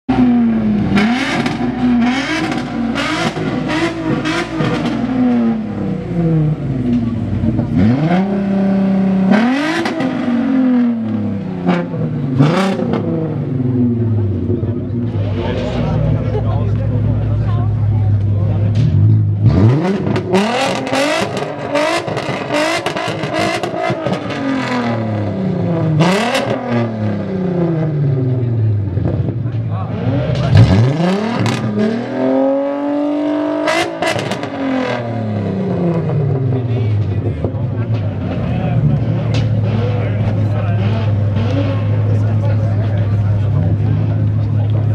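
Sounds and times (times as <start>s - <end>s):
car engine revving over idle: 0.1s - 44.9s.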